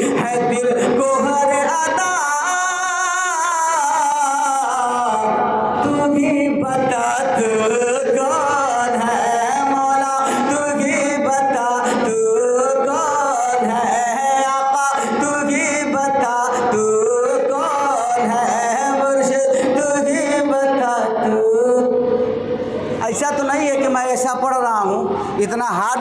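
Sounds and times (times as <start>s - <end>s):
man singing long bending notes: 0.0s - 22.5s.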